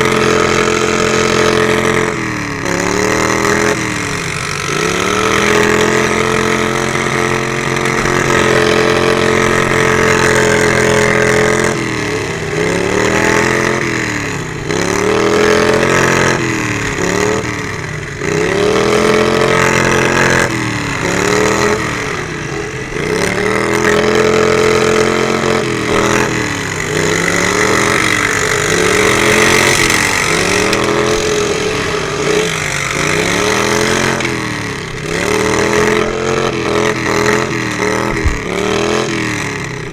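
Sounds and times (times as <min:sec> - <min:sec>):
small mower engine revving: 0:00.0 - 0:39.9.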